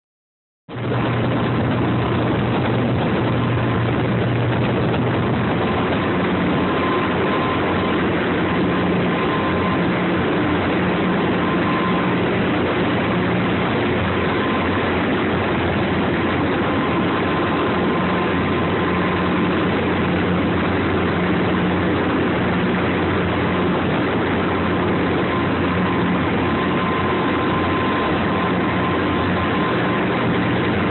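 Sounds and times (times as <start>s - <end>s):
boat diesel engines droning: 0.7s - 30.9s
constant rush of noise: 0.7s - 30.9s.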